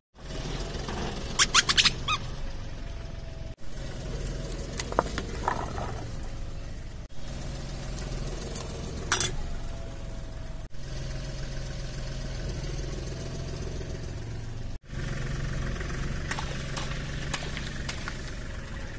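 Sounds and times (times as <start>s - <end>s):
car engine idling: 0.2s - 18.9s.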